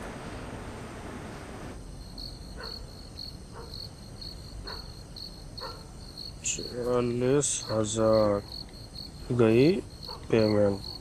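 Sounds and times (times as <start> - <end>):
faint low hum: 0.0 - 11.0
crickets chirping: 0.1 - 11.0.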